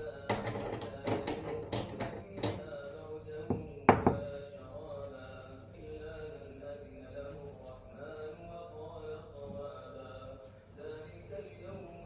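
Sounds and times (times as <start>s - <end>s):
soft recitation: 0.0s - 12.0s.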